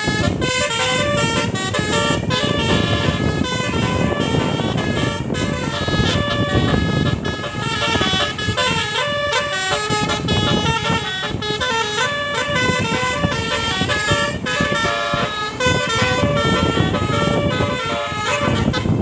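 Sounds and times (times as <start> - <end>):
musical air horn playing a tune: 0.0 - 19.0.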